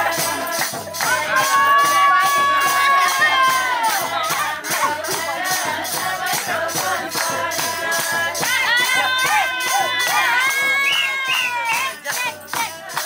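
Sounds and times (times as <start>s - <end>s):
fast high-pitched beat: 0.0s - 13.0s.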